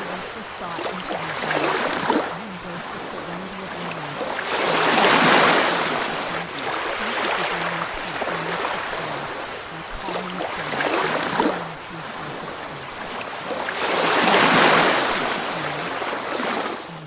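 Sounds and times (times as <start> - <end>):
ocean waves washing ashore: 0.0 - 17.0.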